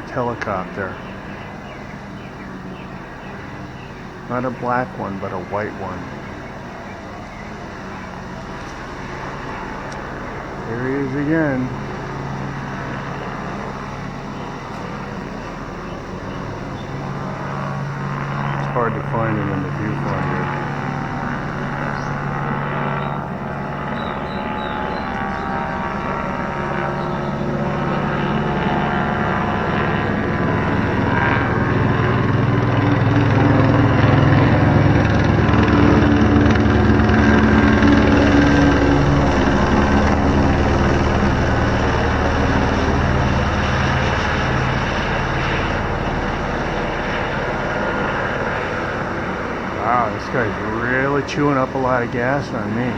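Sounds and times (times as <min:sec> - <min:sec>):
helicopter passing overhead: 0:00.0 - 0:52.9.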